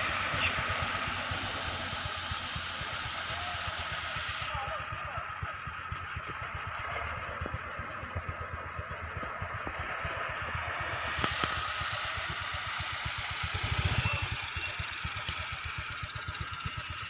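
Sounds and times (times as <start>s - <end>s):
distant tractor engine running: 0.0s - 17.0s.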